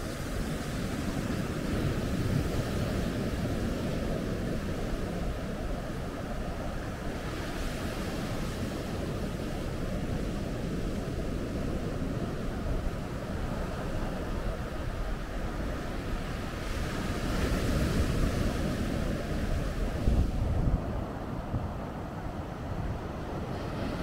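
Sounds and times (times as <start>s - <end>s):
ocean surf washing onto beach: 0.0s - 24.0s
wind rumble on microphone: 0.0s - 24.0s.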